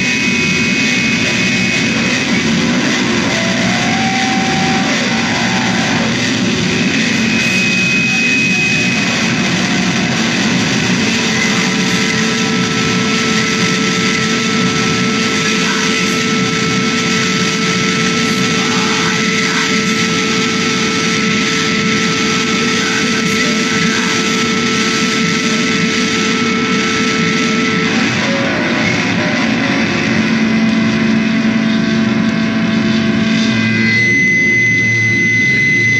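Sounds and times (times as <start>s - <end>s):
harsh distorted noise music: 0.0s - 35.9s
steady held drone tone: 0.0s - 35.9s.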